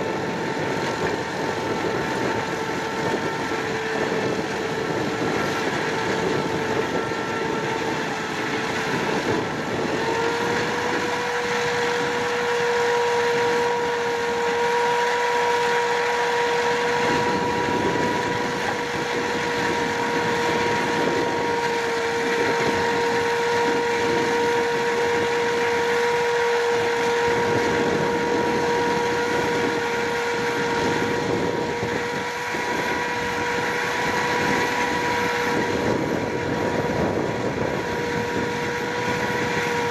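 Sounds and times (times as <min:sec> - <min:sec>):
tractor and harvester running: 0:00.0 - 0:39.9.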